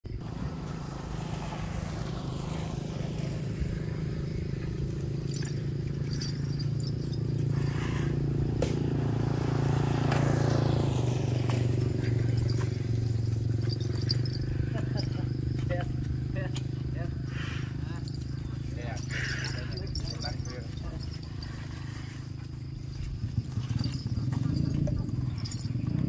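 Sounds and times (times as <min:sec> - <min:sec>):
engine humming steadily: 0:00.1 - 0:26.0.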